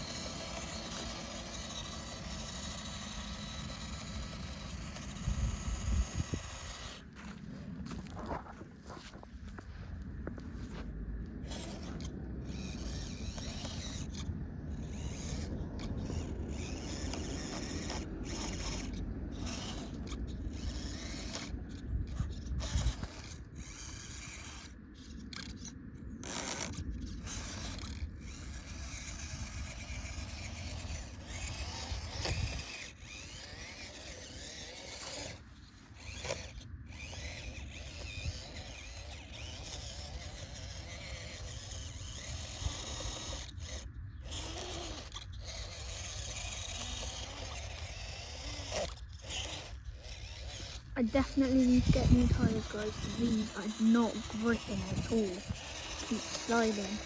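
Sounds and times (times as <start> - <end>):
off-road vehicle driving: 0.0 - 57.0
tyres scraping on loose ground: 0.0 - 57.0.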